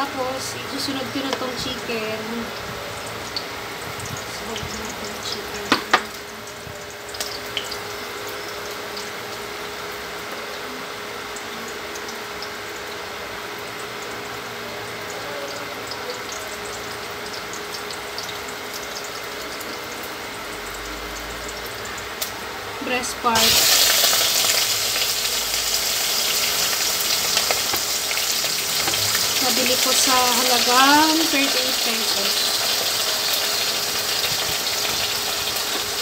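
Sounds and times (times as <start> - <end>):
garlic and onion sizzling in oil: 0.0 - 36.0.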